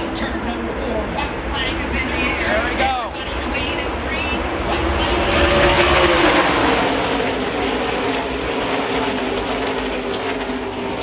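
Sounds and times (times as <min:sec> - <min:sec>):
din of engines: 0:00.0 - 0:11.0
race trucks passing: 0:00.0 - 0:11.0.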